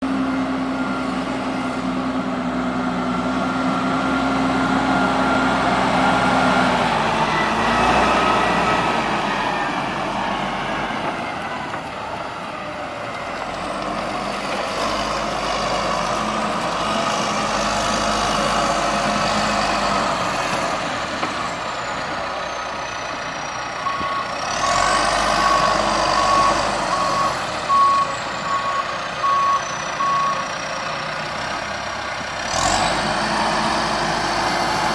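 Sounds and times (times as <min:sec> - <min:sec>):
backhoe diesel engine running: 0:00.0 - 0:34.9.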